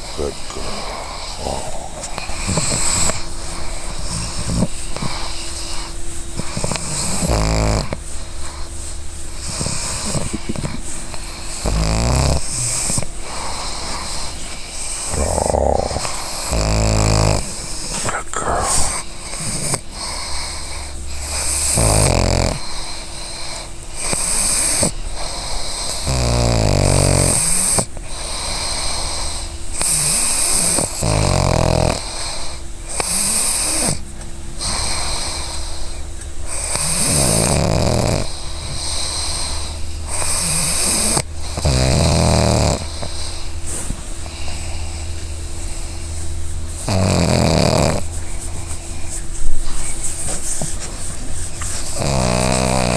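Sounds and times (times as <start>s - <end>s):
dog snoring: 0.0s - 52.9s
wheezy hissing breaths: 0.0s - 52.9s.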